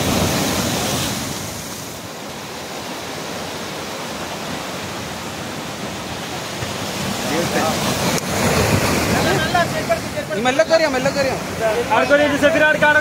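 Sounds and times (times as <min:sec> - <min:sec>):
waves crashing on rocks: 0:00.0 - 0:13.0.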